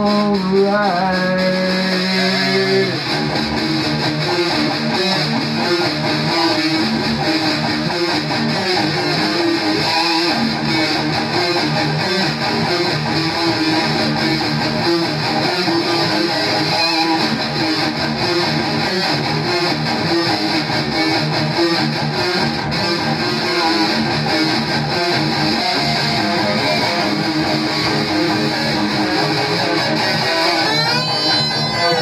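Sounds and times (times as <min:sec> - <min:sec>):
amplified electric guitars strumming: 0:00.0 - 0:32.0.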